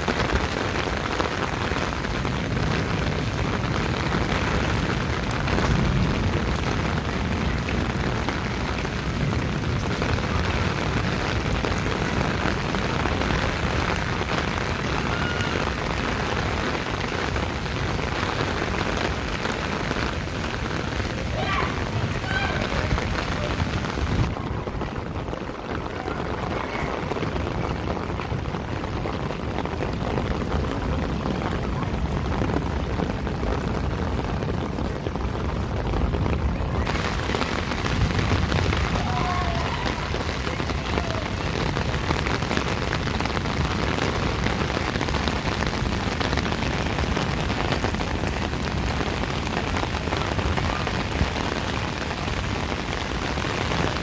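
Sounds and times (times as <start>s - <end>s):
rain on wet pavement: 0.0s - 54.0s.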